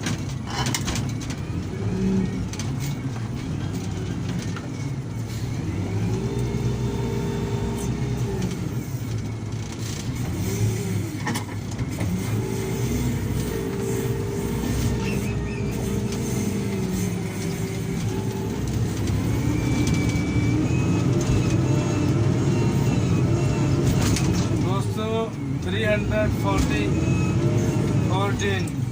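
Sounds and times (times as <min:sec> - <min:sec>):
diesel engine revving under load: 0:00.0 - 0:28.9.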